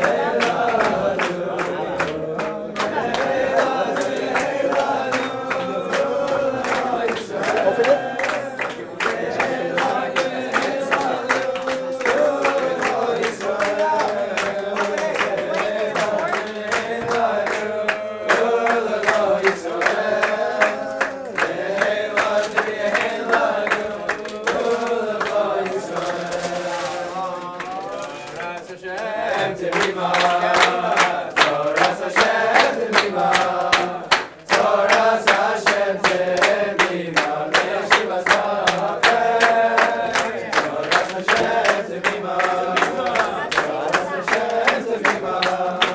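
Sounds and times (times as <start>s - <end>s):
men singing together: 0.0s - 45.9s
rhythmic hand-clapping: 0.0s - 45.9s.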